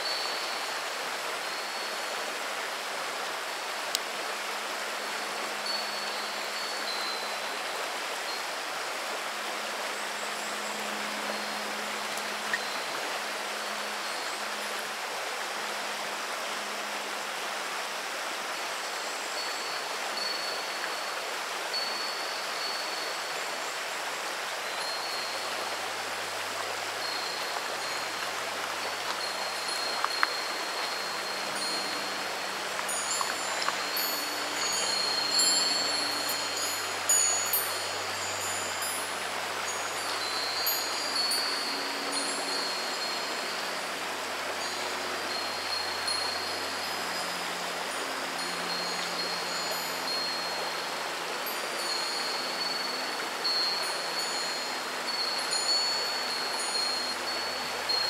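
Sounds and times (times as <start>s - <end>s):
river rushing over pebbles: 0.0s - 58.0s.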